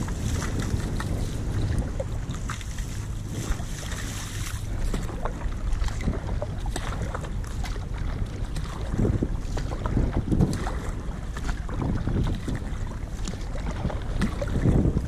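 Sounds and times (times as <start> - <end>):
paddle splashing in water: 0.0 - 15.0
wind rumble on microphone: 0.0 - 15.0.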